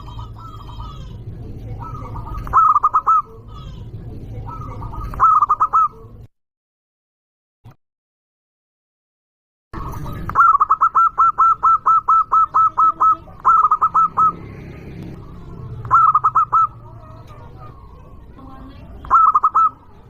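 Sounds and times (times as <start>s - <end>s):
dove cooing: 0.0s - 6.2s, 9.8s - 20.0s
low background hum: 0.0s - 6.3s, 9.8s - 20.0s.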